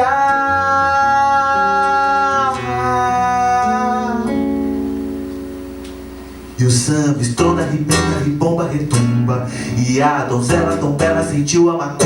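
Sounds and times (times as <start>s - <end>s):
man singing long notes: 0.0s - 5.0s, 6.6s - 12.0s
acoustic guitar: 0.0s - 12.0s.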